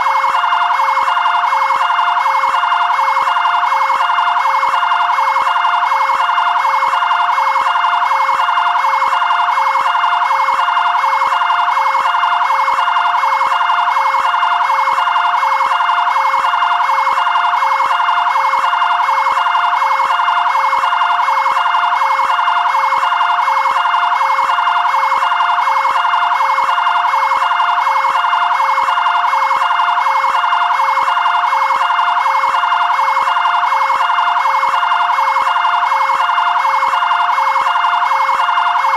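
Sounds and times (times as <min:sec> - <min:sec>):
two-tone siren: 0:00.0 - 0:38.9.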